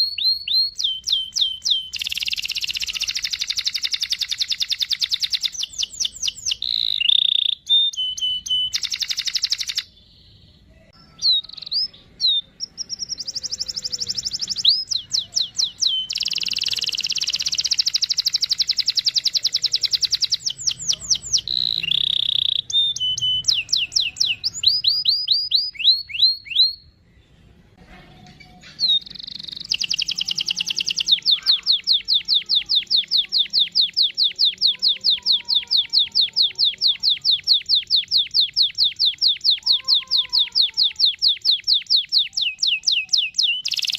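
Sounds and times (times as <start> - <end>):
canary singing: 0.0 - 27.2, 28.2 - 43.9.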